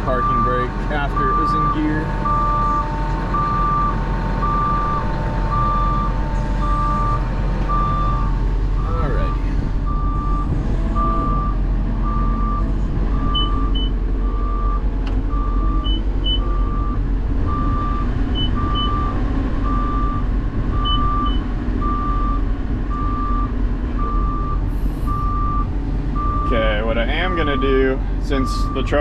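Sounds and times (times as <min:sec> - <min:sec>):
loader engine running: 0:00.0 - 0:29.0
backup alarm beeping: 0:00.1 - 0:00.6, 0:03.4 - 0:09.3, 0:09.9 - 0:26.6.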